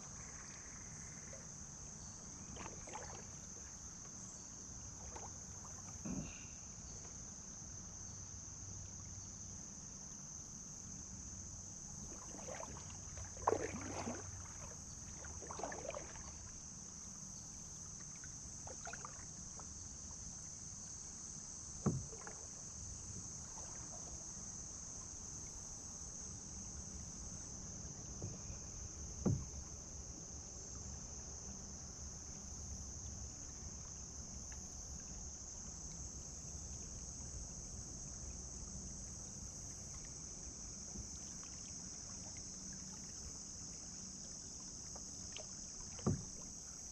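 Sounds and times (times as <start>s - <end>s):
paddle splashes: 0.0s - 7.4s, 11.8s - 20.7s, 21.6s - 31.6s, 33.2s - 46.9s.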